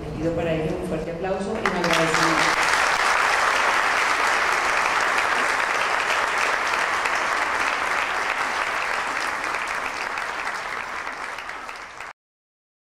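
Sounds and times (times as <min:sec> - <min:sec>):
audience applauding: 0:01.6 - 0:12.1.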